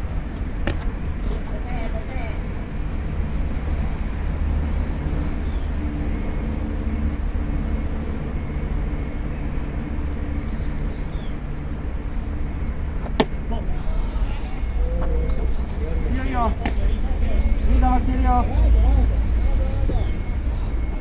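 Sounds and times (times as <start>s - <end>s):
distant engine rumble: 0.0s - 21.0s.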